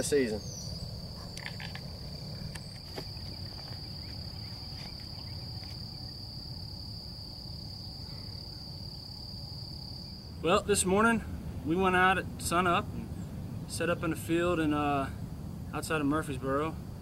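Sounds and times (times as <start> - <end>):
insects droning trill: 0.0 - 17.0
low background rumble: 0.0 - 17.0.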